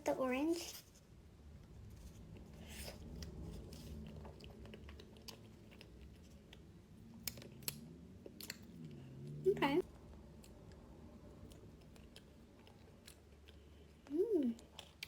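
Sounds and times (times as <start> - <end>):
chewing pastry: 1.7 - 15.0.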